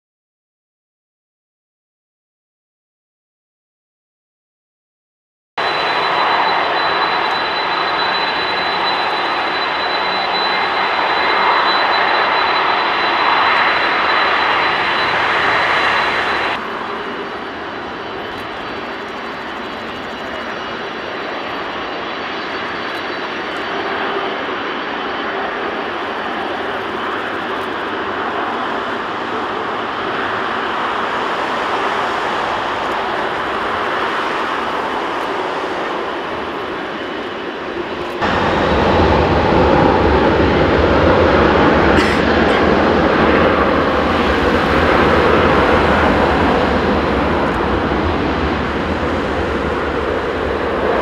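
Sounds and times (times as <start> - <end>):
high engine whine: 5.6 - 51.0
jet engines roaring: 5.6 - 51.0.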